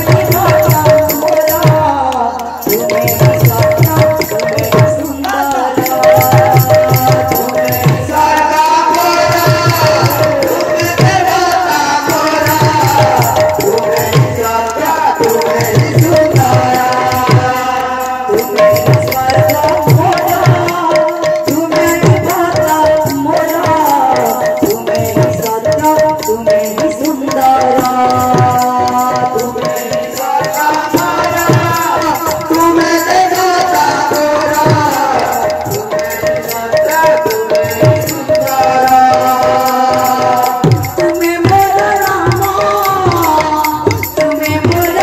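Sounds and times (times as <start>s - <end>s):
hand drum beating: 0.0s - 45.0s
man singing devotional song: 0.0s - 45.0s.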